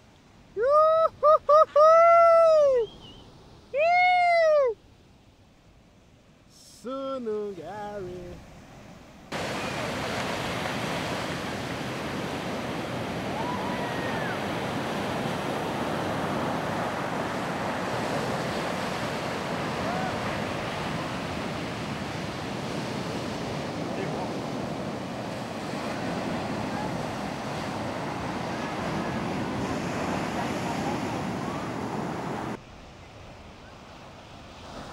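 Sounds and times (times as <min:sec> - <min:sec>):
ocean surf washing onto beach: 0:06.0 - 0:34.9.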